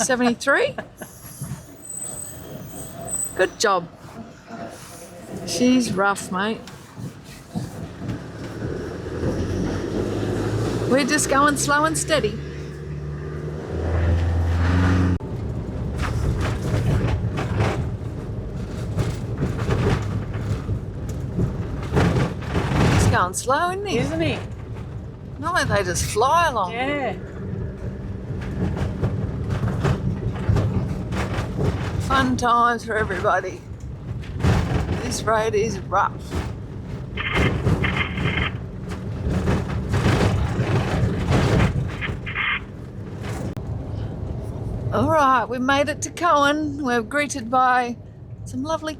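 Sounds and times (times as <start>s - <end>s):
vehicle rumbling on dirt road: 0.0s - 48.9s
knocks and rattles from bumps: 0.8s - 14.4s, 15.2s - 45.2s.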